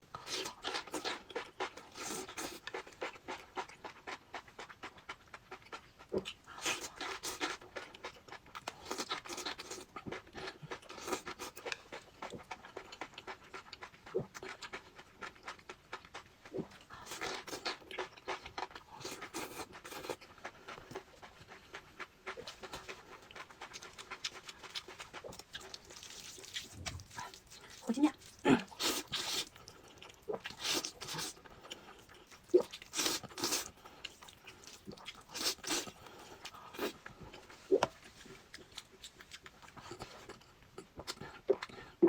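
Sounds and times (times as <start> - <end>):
crispy food crunching: 0.1 - 41.8
chewing: 0.1 - 42.0.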